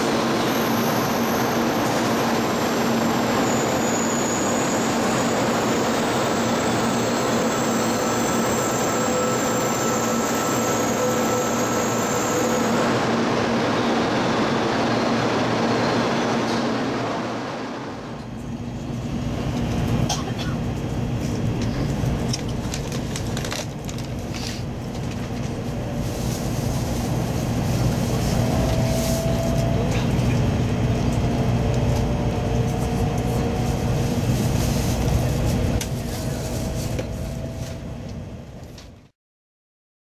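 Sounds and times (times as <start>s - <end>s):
train running from inside carriage: 0.0s - 39.1s.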